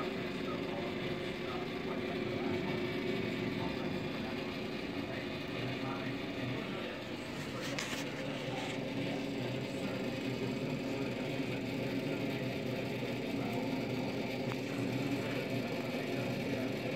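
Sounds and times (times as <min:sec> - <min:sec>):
rotisserie motor humming: 0:00.0 - 0:16.9.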